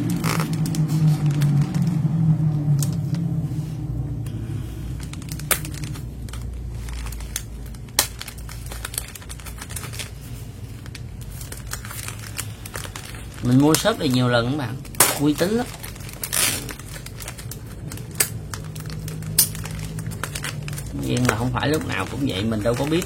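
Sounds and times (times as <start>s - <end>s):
plastic crinkling: 0.0s - 2.2s, 4.3s - 23.0s
low hum: 0.0s - 23.0s.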